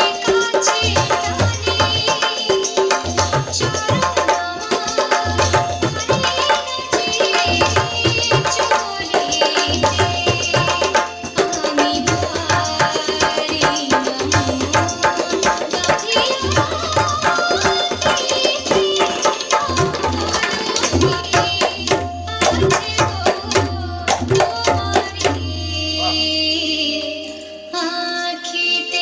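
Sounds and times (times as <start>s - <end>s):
tabla and barrel drum duet: 0.0s - 29.0s.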